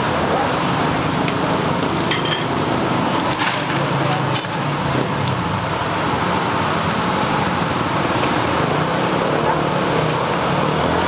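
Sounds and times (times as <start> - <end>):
city street traffic hum: 0.0 - 11.0.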